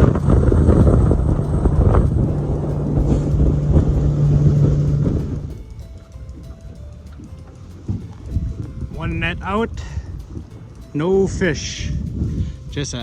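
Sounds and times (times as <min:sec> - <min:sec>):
outboard motor running: 0:00.0 - 0:12.8
wind buffeting microphone: 0:00.0 - 0:13.0.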